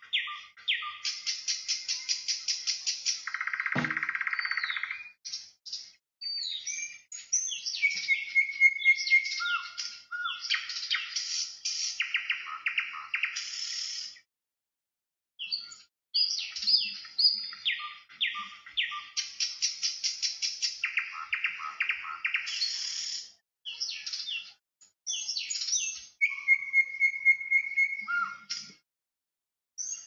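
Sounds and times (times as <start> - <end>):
songbirds chirping: 0.0 - 14.3, 15.4 - 28.8.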